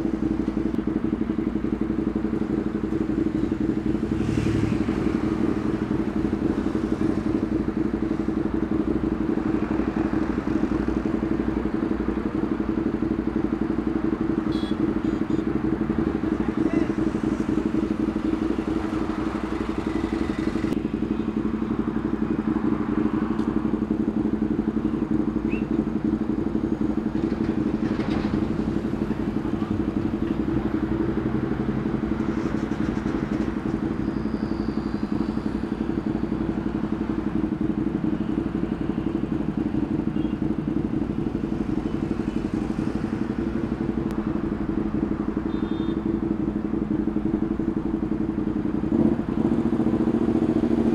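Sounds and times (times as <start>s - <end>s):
motorcycle engine idling: 0.0s - 50.9s.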